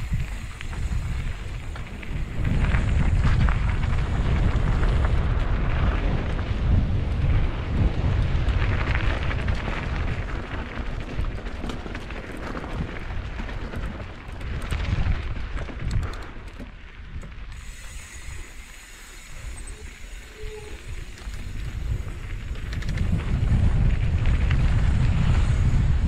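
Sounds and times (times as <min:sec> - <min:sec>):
rattles and crunches from trail: 0:00.0 - 0:26.0
wind buffeting microphone: 0:00.0 - 0:26.0.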